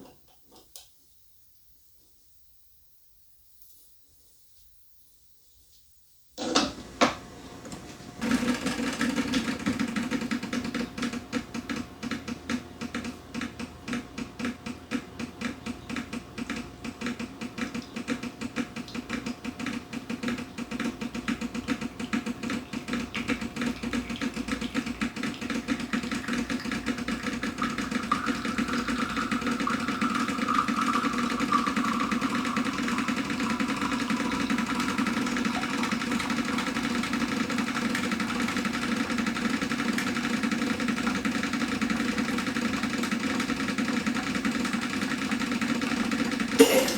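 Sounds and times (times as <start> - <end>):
espresso machine pump running: 6.4 - 46.9.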